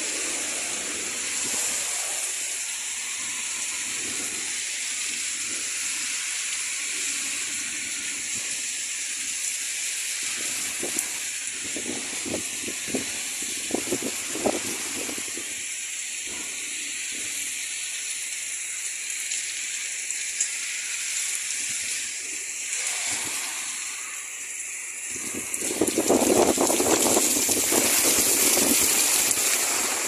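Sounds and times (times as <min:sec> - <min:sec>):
heavy rain pouring on a street: 0:00.0 - 0:30.0.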